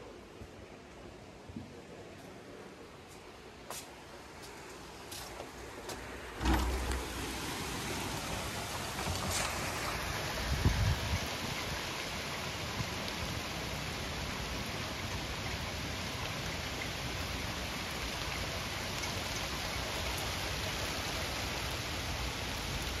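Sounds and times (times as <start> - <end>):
rain falling on foliage: 4.2 - 23.0.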